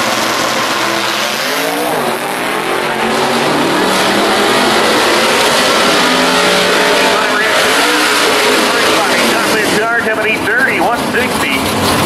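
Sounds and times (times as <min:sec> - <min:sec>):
car engine running loud: 0:00.0 - 0:12.0.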